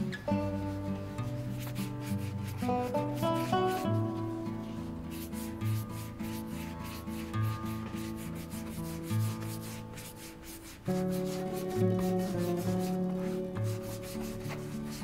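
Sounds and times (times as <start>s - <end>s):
soft background music: 0.0s - 15.0s
brush rubbing leather boot: 0.3s - 15.0s.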